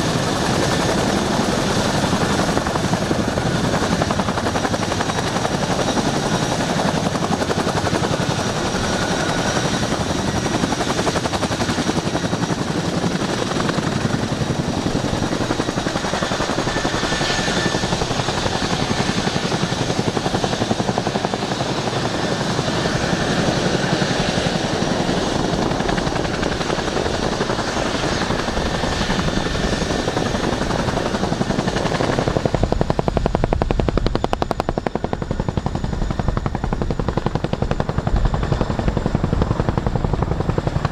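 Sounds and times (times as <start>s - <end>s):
helicopter rotor blade chop: 0.0s - 40.9s
high turbine engine whine: 0.0s - 40.9s.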